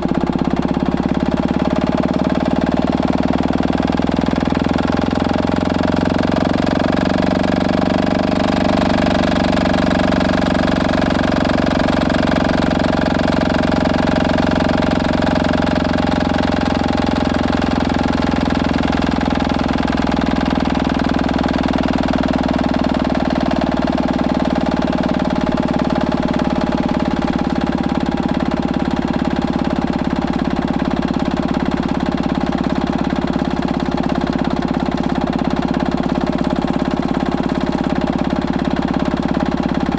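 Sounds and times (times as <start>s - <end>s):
stationary engine running: 0.0s - 39.9s.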